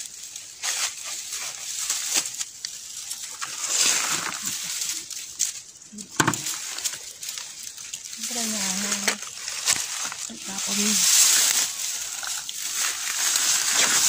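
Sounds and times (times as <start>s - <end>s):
dry leaves and twigs crackling: 0.0s - 14.0s.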